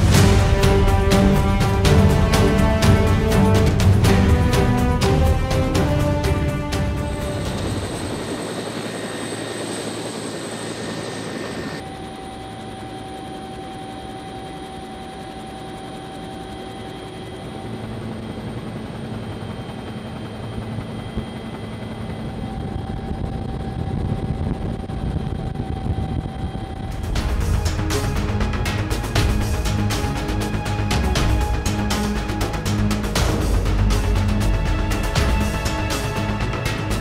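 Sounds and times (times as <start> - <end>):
helicopter cabin drone: 0.0 - 37.0
helicopter turbine whine and rotor: 0.0 - 37.0.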